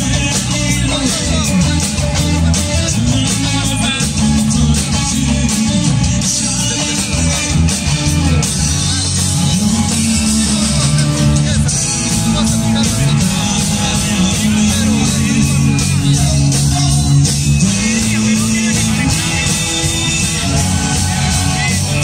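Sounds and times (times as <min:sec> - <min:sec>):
bass guitar: 0:00.0 - 0:22.0
drums: 0:00.0 - 0:22.0
electric guitar: 0:00.0 - 0:22.0
person singing: 0:00.0 - 0:22.0.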